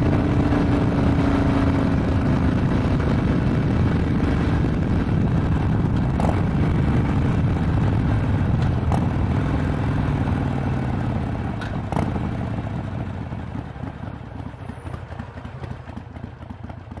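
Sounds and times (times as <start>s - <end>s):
motorcycle engine slowing: 0.0s - 17.0s.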